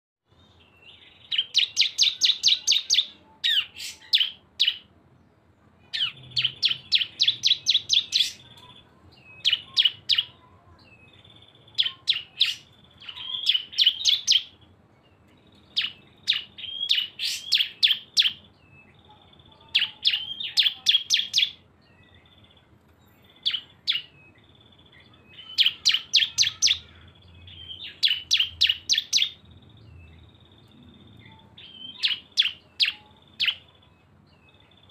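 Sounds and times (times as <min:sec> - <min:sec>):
birds singing rattling chips: 0:00.4 - 0:04.9, 0:05.9 - 0:34.9.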